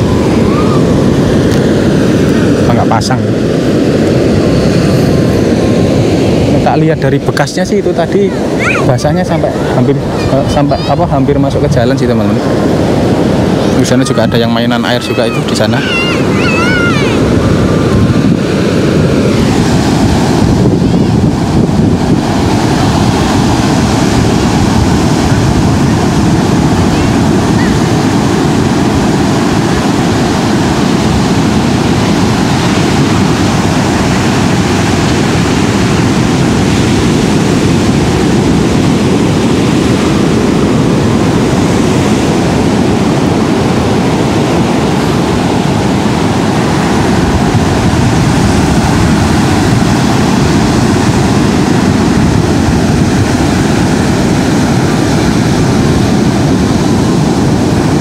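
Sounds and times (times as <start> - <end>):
ocean waves breaking on beach: 0.0 - 58.0
wind rumble on microphone: 0.0 - 58.0.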